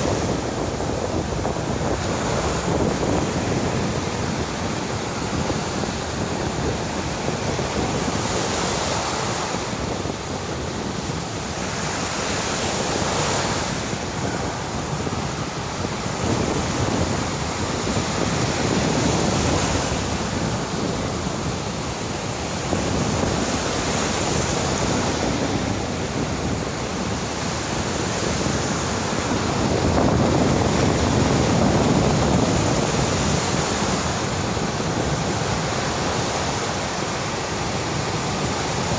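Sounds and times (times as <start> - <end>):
sea surf breaking on a beach: 0.0 - 38.9
wind buffeting microphone: 0.0 - 38.9.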